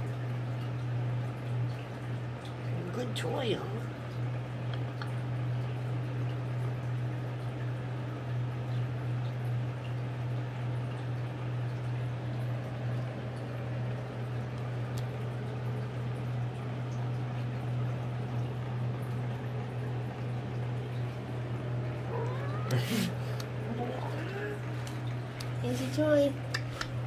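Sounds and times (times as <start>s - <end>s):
electric fan humming: 0.0s - 27.0s.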